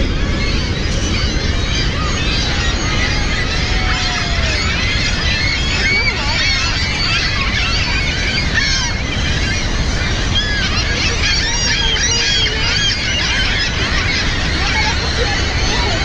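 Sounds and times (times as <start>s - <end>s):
gulls crying: 0.0s - 16.0s
steady low rumble: 0.0s - 16.0s.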